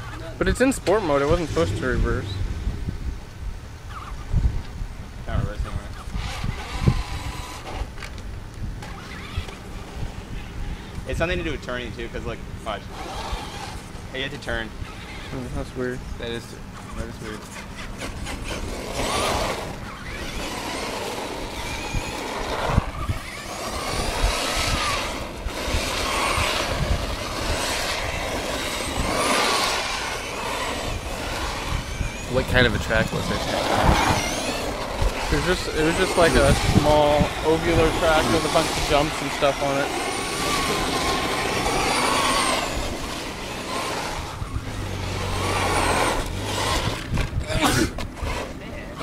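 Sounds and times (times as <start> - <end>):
tyres rough noise: 0.0 - 49.0
electric motor whining: 5.6 - 11.4, 12.7 - 15.8, 16.8 - 49.0.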